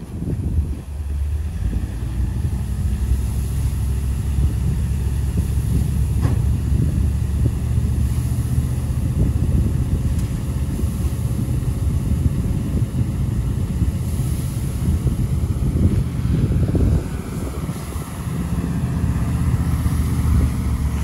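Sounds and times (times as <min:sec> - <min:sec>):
truck engine running: 0:00.0 - 0:21.0
wind buffeting microphone: 0:00.0 - 0:21.0.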